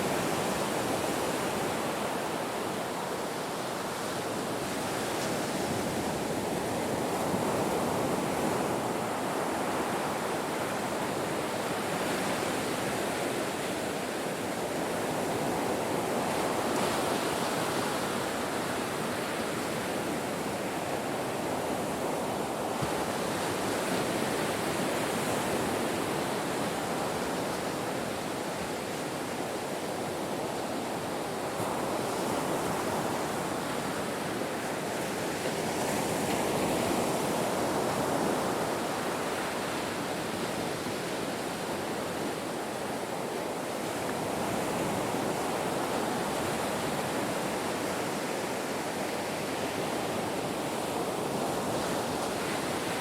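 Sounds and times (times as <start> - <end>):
ocean surf washing onto shore: 0.0 - 53.0.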